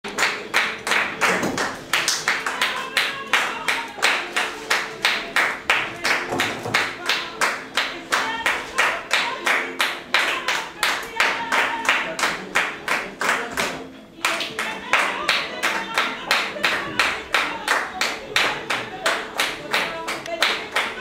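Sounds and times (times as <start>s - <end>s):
people clapping palmas rhythm: 0.0s - 21.0s.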